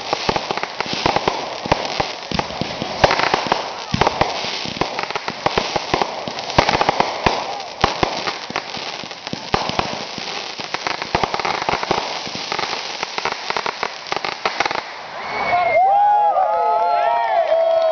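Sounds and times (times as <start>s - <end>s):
fireworks crackling and popping: 0.0s - 15.6s.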